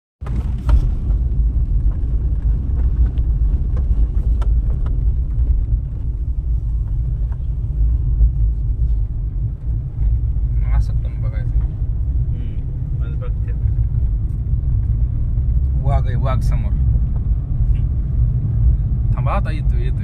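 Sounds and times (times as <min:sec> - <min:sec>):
vehicle rumbling: 0:00.2 - 0:20.0.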